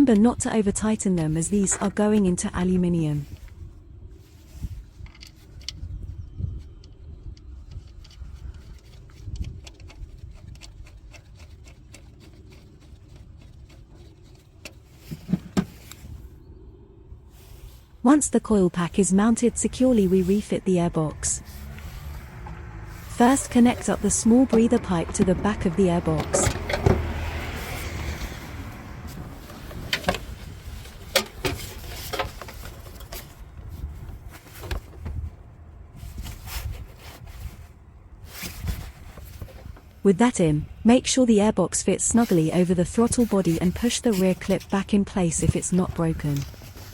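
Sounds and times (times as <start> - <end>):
low steady rumble: 0.0 - 46.9.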